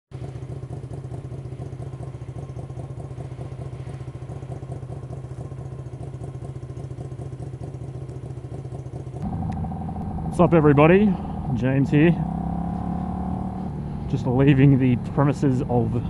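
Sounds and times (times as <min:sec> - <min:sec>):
motorcycle engine idling: 0:00.1 - 0:16.0.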